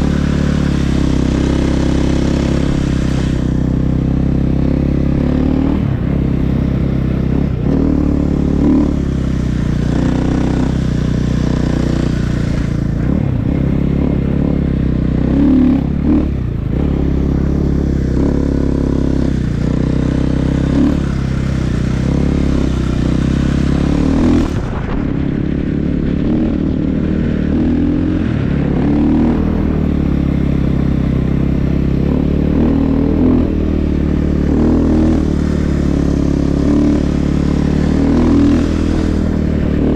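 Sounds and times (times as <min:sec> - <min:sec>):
snow bike engine revving: 0:00.0 - 0:39.9.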